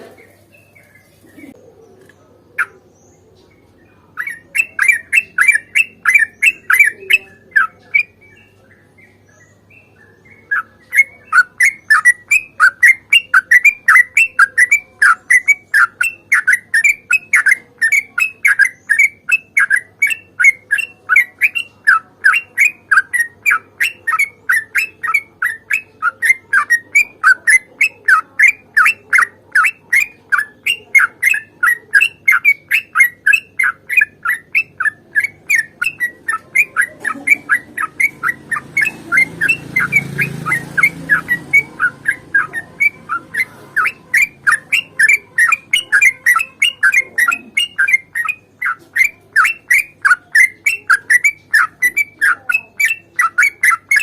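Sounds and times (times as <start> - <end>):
bird singing rapid chirps: 0.0 - 54.0.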